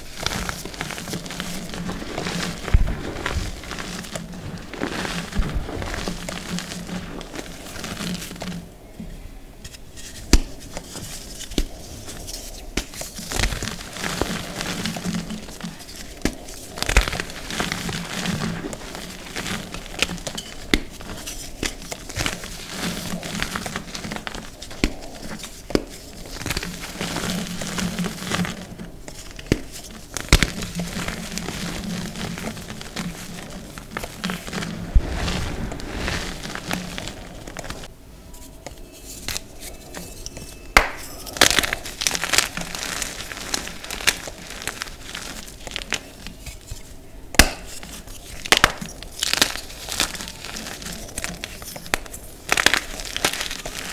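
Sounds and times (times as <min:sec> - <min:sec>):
chalk crumbling by hand: 0:00.0 - 0:08.7, 0:09.6 - 0:53.9.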